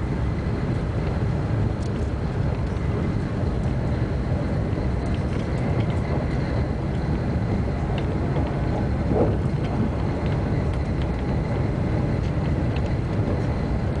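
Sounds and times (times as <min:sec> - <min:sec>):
train cabin rumble: 0:00.0 - 0:14.0.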